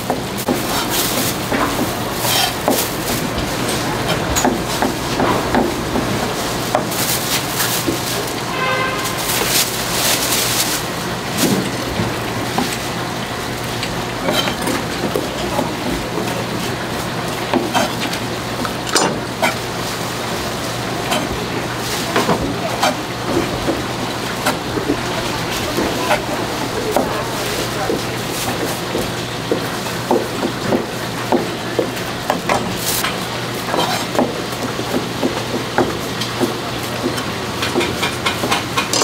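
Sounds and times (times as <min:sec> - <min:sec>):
busy background din: 0:00.0 - 0:39.0.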